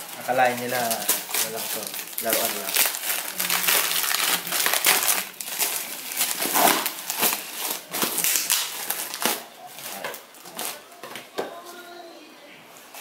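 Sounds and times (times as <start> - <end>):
plastic wrapping crinkling and tearing: 0.0 - 11.5.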